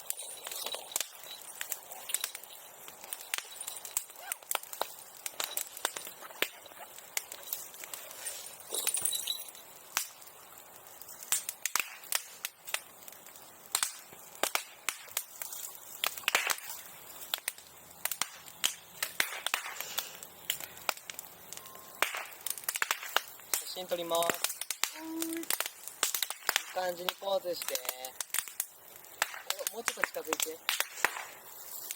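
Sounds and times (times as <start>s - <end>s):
bonfire crackling: 0.0s - 31.9s.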